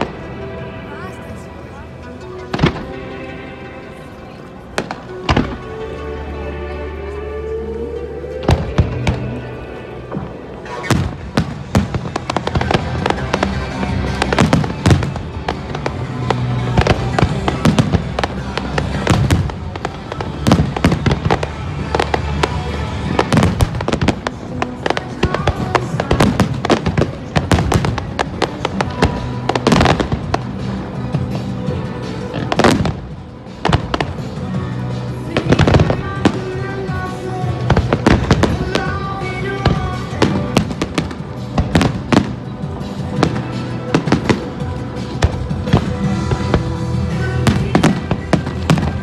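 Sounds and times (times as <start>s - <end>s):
music: 0.0s - 49.0s.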